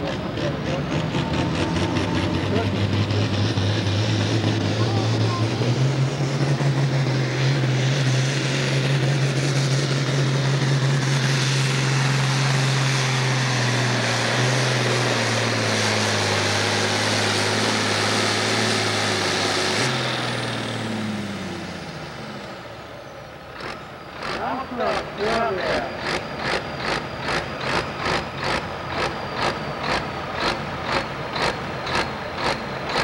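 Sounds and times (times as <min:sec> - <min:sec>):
diesel tractor engine under load: 0:00.0 - 0:33.0.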